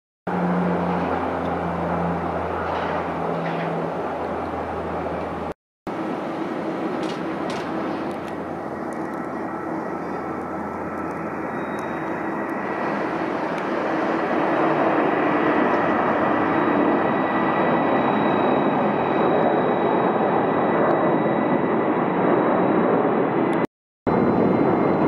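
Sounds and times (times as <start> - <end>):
jet engines at takeoff thrust: 0.3 - 25.0.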